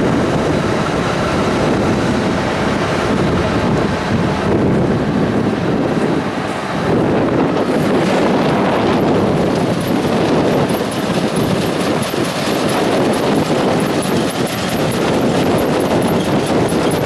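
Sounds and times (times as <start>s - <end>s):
combine harvester clattering: 0.0s - 17.0s.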